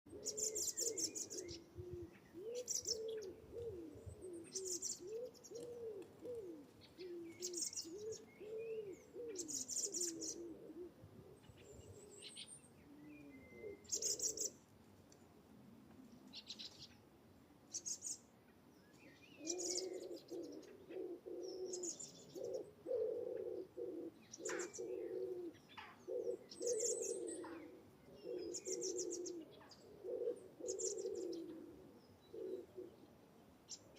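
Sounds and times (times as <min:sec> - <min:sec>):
low wavering cooing calls: 0:00.1 - 0:14.6, 0:19.4 - 0:33.1.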